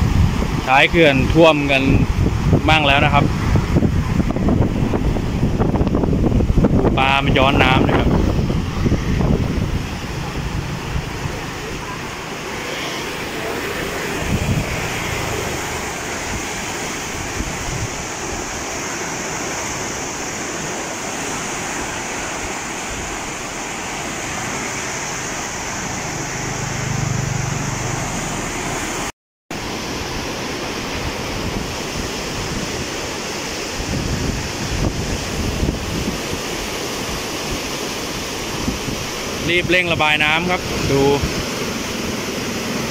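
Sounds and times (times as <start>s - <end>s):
floodwater rushing through dam gates: 0.0s - 42.9s
wind on microphone: 0.0s - 42.9s.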